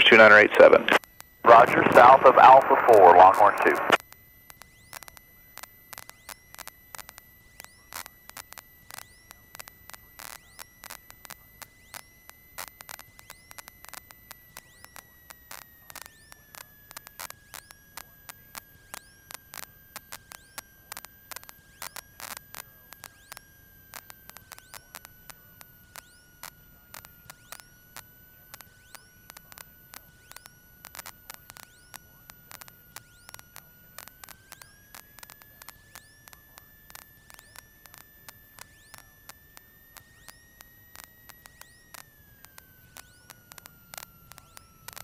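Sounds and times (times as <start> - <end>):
radio static crackling clicks: 0.0 - 45.0
thin electrical whine: 0.0 - 45.0.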